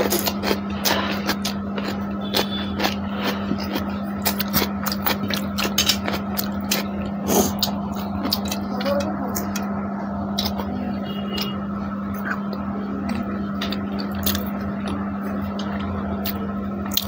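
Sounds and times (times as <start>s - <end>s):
chewing: 0.0s - 9.7s, 12.2s - 17.0s
steady low hum: 0.0s - 17.0s.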